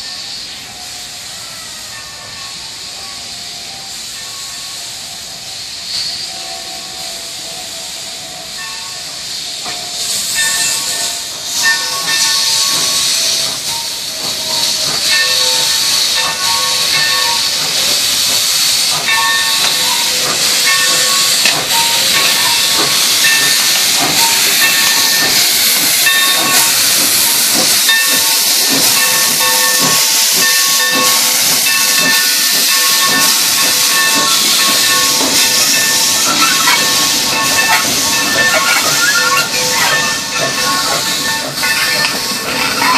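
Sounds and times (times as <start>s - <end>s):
steam hissing: 0.0s - 42.9s
steam locomotive rolling past: 0.0s - 42.9s.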